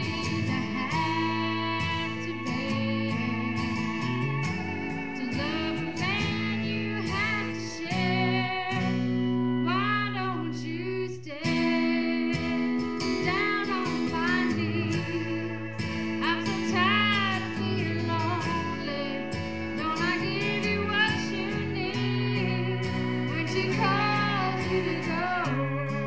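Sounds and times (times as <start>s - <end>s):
guitar accompaniment: 0.0s - 26.0s
steady bass notes: 0.0s - 26.0s
woman singing: 0.0s - 26.0s.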